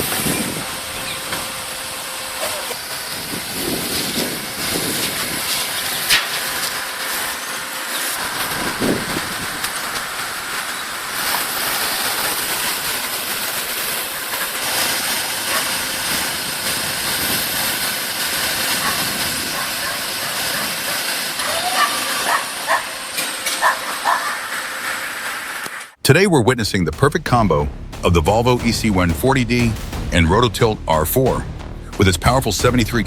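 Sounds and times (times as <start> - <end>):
excavator engine and machinery: 0.0 - 33.0.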